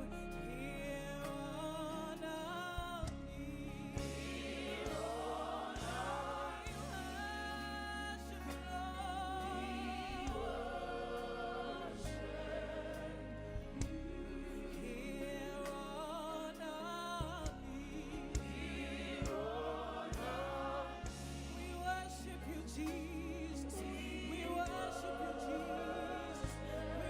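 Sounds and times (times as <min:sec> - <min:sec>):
gospel voices singing: 0:00.0 - 0:27.0
instrumental accompaniment with bass: 0:00.0 - 0:27.0.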